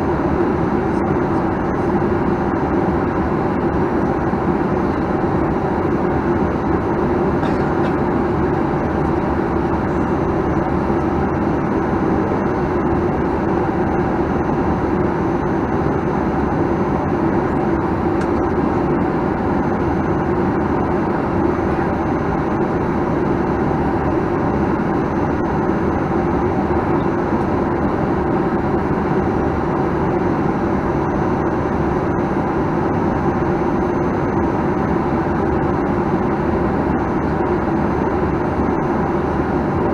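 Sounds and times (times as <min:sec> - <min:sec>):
jet engine and airflow noise in cabin: 0:00.0 - 0:39.9.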